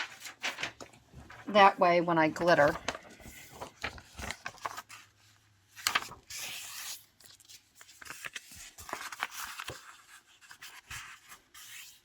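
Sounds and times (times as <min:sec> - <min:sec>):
paper rubbing and rustling: 0:00.0 - 0:01.5, 0:02.4 - 0:12.0
paper crackling: 0:00.0 - 0:01.6, 0:02.4 - 0:12.0.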